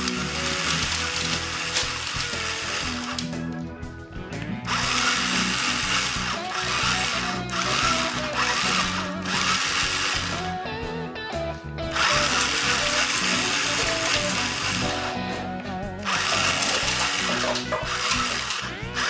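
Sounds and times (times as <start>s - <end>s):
electric motor whirring: 0.0s - 3.6s, 4.4s - 11.0s, 11.8s - 19.0s
background music: 0.0s - 19.0s.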